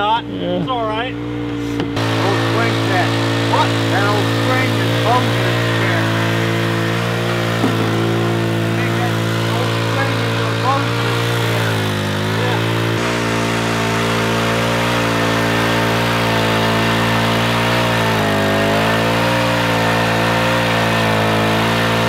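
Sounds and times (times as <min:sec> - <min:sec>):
gasoline water pump engine running: 0:00.0 - 0:22.0.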